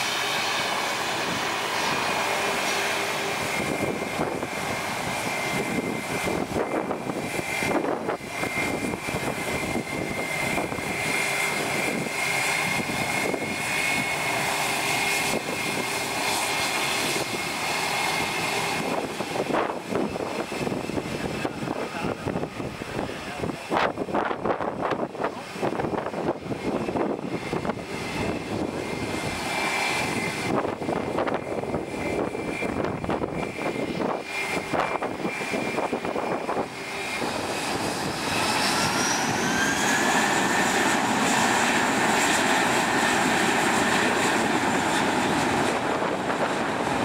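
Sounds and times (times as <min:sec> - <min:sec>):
jet engines whining: 0:00.0 - 0:47.0
wind buffeting microphone: 0:00.1 - 0:47.0.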